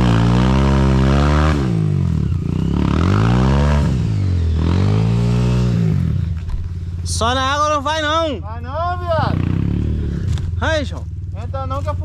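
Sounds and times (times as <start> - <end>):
dirt bike engine revving: 0.0 - 8.2, 8.9 - 12.0.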